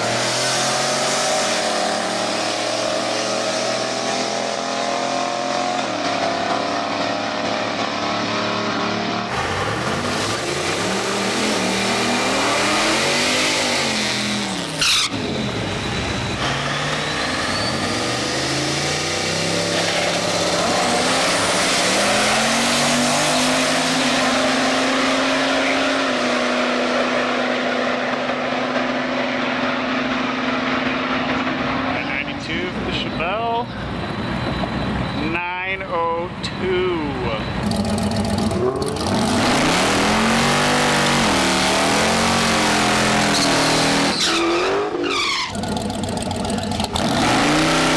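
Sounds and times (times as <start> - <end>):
race car engines revving: 0.0 - 47.9.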